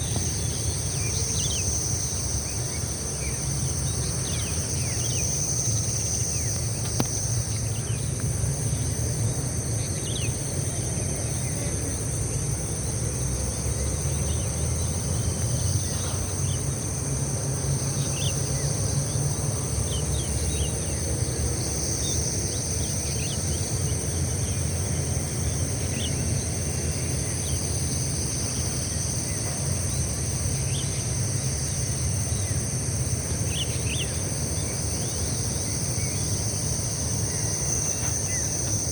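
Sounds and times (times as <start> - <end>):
insects buzzing and trilling: 0.0 - 38.9.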